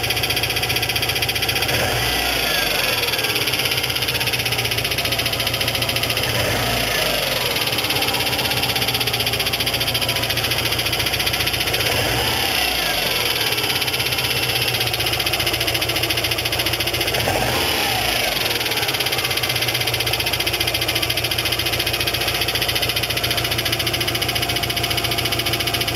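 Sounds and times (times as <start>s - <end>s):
engine knocking rattle: 0.0s - 25.9s.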